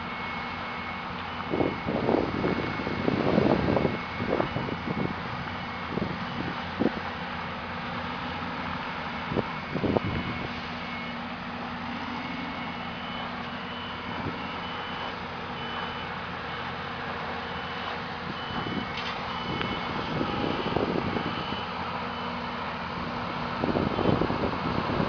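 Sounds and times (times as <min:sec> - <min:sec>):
heavy vehicle engine running: 0:00.0 - 0:25.0
reversing alarm beeping: 0:00.0 - 0:25.0.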